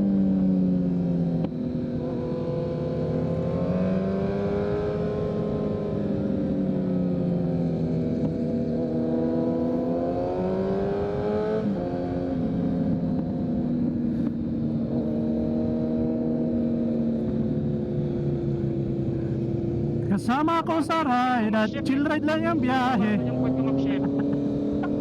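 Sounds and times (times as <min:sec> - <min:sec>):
motorcycle engine revving: 0:00.0 - 0:20.1, 0:21.7 - 0:25.0.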